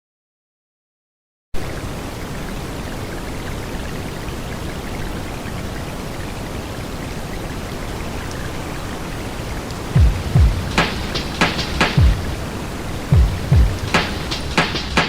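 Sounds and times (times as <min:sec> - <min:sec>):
steady rain: 0:01.6 - 0:15.0.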